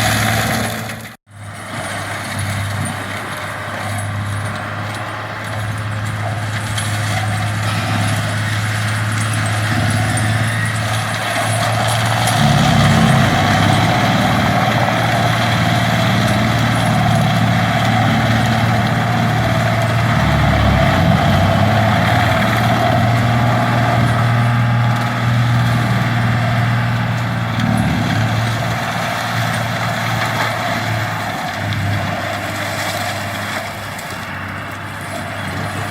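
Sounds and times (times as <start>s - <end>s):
forestry mulcher churning: 0.0s - 35.9s
tractor engine running: 0.0s - 35.9s.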